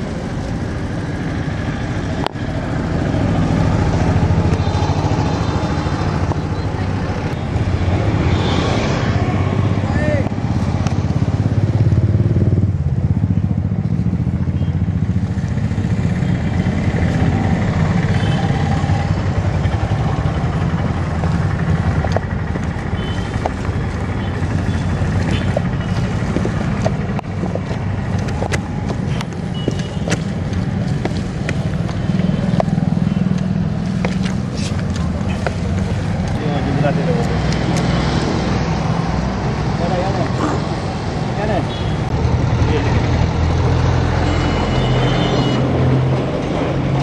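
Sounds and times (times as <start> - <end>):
motorcycle engines running: 0.0 - 47.0
street traffic noise: 0.0 - 47.0.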